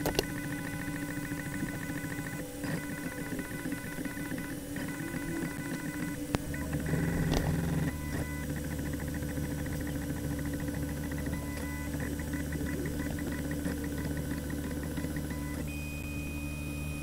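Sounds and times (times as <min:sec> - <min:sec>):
printer motors whining: 0:00.0 - 0:17.0.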